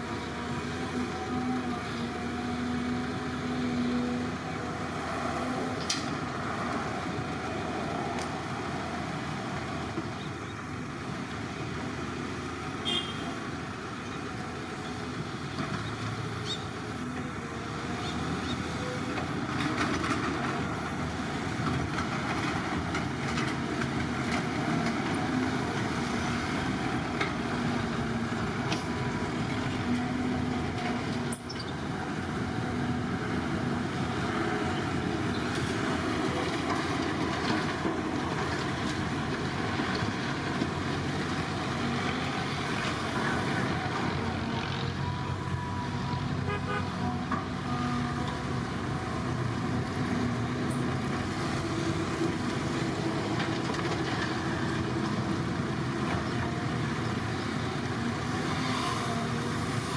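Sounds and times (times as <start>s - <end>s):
construction machinery engine rumble: 0.0s - 59.9s.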